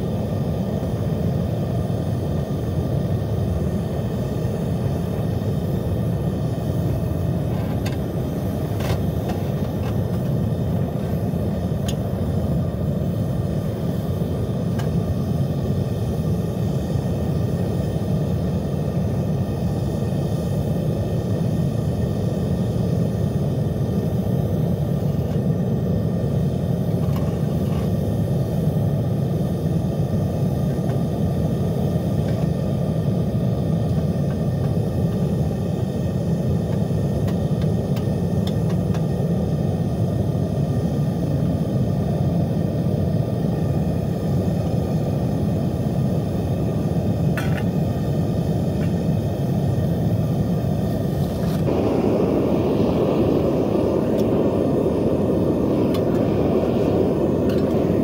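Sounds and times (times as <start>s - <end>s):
propane burner rushing: 0.0s - 58.0s.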